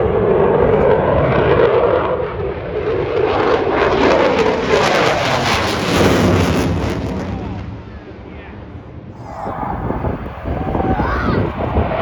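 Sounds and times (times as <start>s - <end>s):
aircraft engine flying past: 0.0s - 12.0s.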